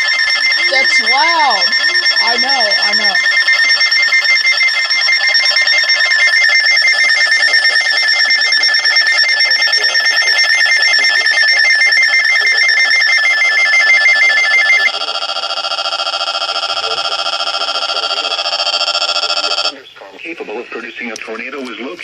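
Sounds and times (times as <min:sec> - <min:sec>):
high-pitched alarm beeping: 0:00.0 - 0:19.8
lower-pitched alarm beeping: 0:00.0 - 0:19.8.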